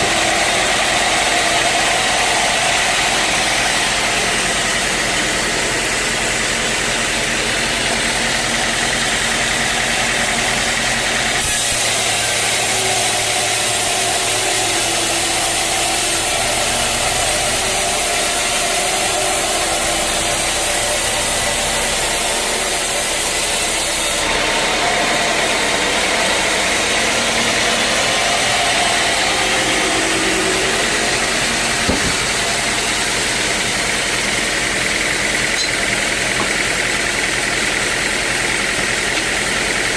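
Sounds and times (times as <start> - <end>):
band sawmill engine running: 0.0 - 39.9
saw blade cutting log: 0.0 - 39.9.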